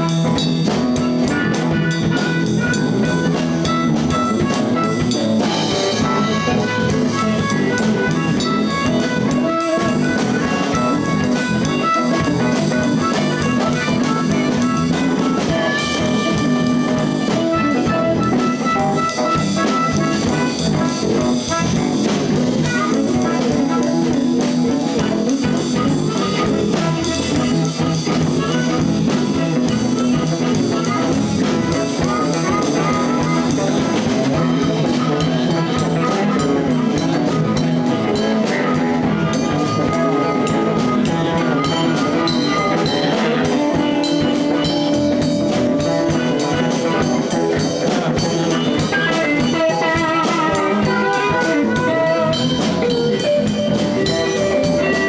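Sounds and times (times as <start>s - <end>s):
bass guitar: 0.0s - 55.0s
drums: 0.0s - 55.0s
electric guitar: 0.0s - 55.0s
harmonica bending notes: 0.0s - 55.0s.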